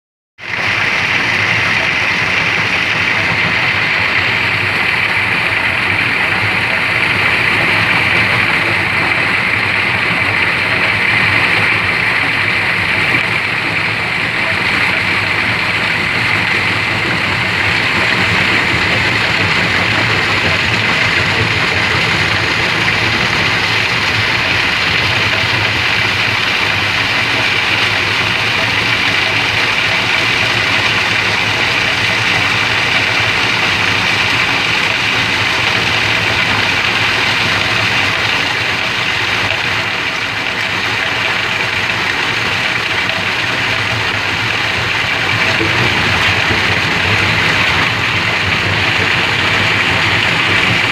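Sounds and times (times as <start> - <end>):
grinding machine drone with hiss: 0.5 - 50.9.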